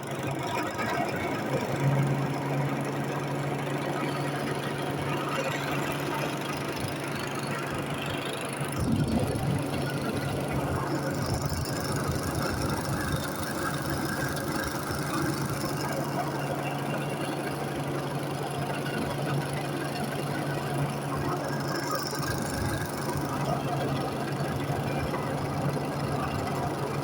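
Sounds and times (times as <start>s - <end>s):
steady engine drone: 0.0s - 27.0s.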